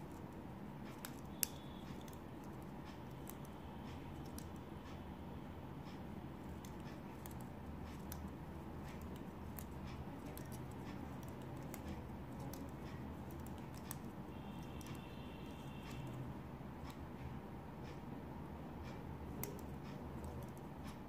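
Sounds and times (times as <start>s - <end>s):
shuttle and thread clicking: 0.0s - 5.0s, 5.8s - 17.0s, 18.8s - 21.0s
faint low hum: 0.0s - 21.0s.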